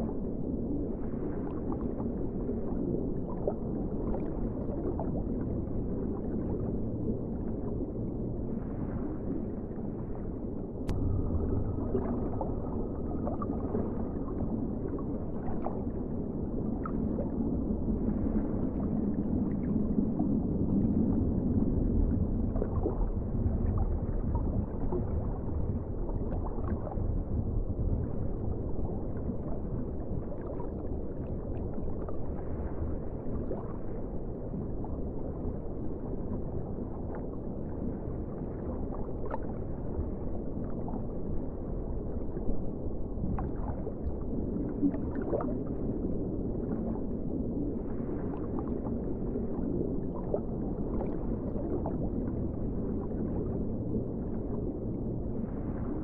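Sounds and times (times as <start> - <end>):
underwater rumble of moving water: 0.0 - 56.0.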